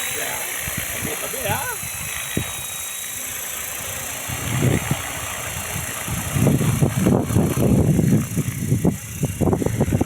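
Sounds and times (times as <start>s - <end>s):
rc helicopter whine: 0.0s - 10.0s
wind buffeting microphone: 0.5s - 2.7s, 3.7s - 10.0s.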